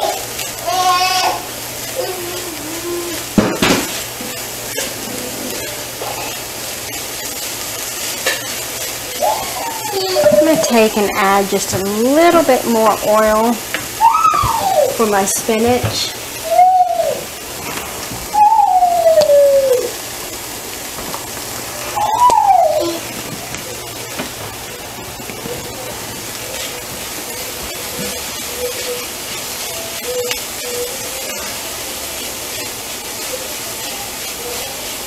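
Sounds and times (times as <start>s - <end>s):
onions sizzling in a skillet: 0.0s - 35.0s.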